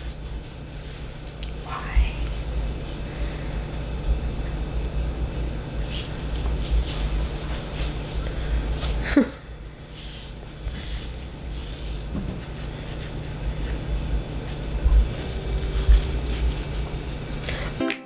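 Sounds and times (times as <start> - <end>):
low hum and rumble: 0.0 - 17.8.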